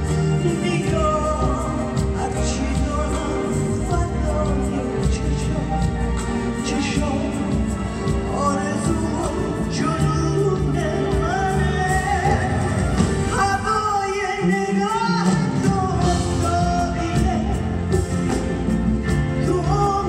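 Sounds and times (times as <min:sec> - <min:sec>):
live pop band playing: 0:00.0 - 0:20.0
person singing: 0:00.0 - 0:20.0.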